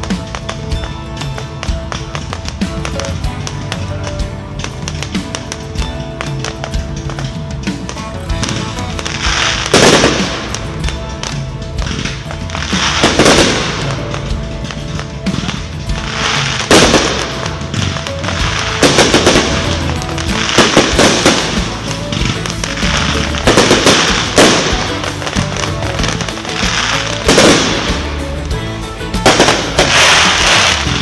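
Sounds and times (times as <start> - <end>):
crackling hissing sparks: 0.0 - 31.0
firework shells bursting: 0.0 - 31.0.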